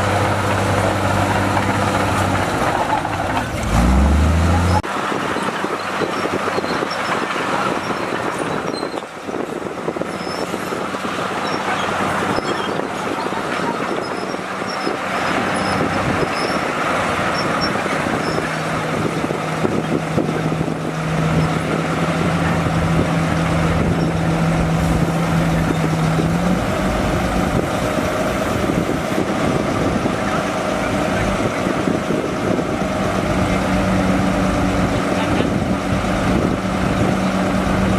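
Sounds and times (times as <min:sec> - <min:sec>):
clanking rattle of tracks: 0:00.0 - 0:37.9
diesel engine running: 0:00.0 - 0:37.9.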